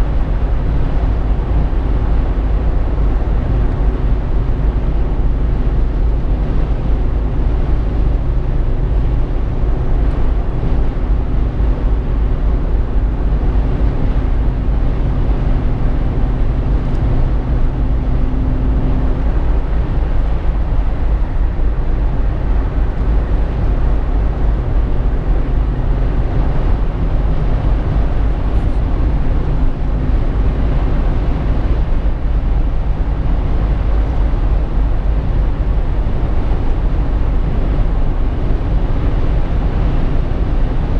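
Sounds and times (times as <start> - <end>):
drivetrain hum: 0.0 - 40.9
road and engine rumble: 0.0 - 40.9.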